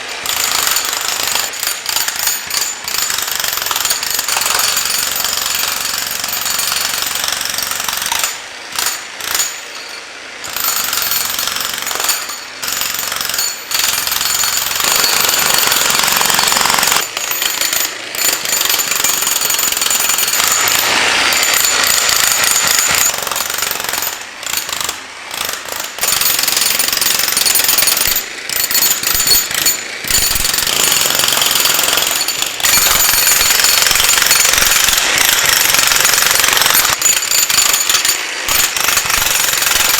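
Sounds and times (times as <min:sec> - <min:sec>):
jackhammer breaking concrete: 0:00.0 - 0:39.9.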